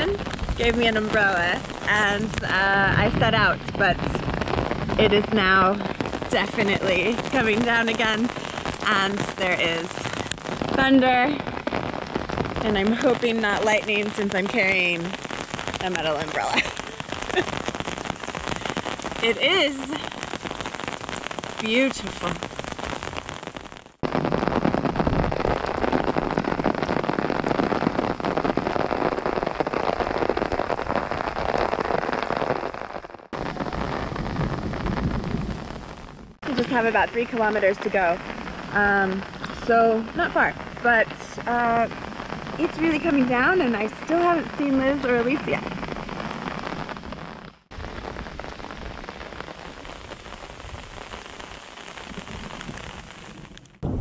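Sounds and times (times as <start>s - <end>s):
heavy rain on umbrella: 0.0s - 54.0s.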